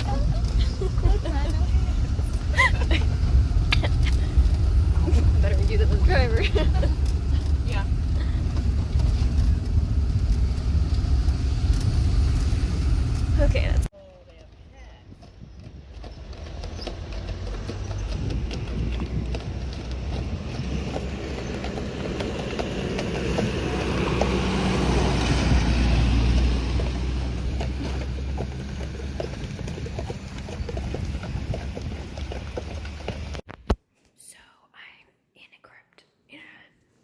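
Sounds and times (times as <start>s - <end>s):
rattles and knocks from bumps: 0.0s - 33.5s
vehicle engine and road rumble: 0.0s - 33.8s.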